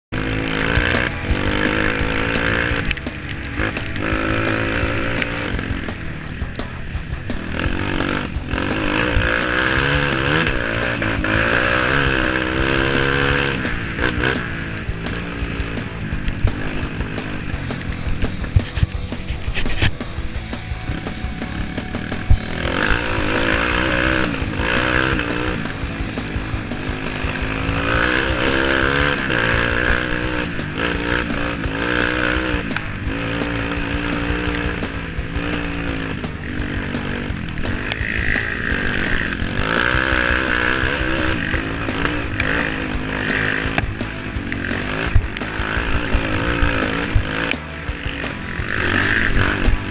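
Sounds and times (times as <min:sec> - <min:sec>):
engines running and revving: 0:00.0 - 0:49.9.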